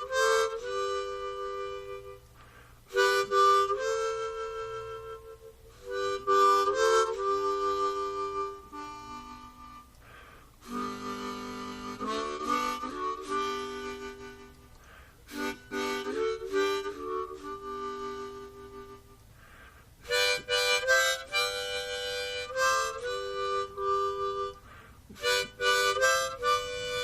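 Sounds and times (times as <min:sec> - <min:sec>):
harmonica music: 0:00.0 - 0:27.0.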